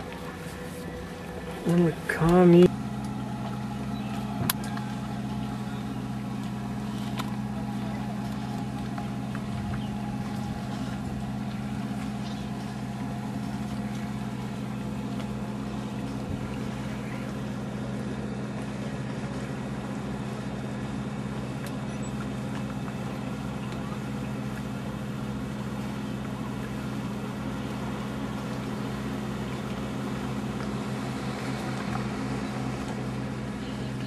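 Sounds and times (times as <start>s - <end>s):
boat motor running: 0.0s - 34.0s.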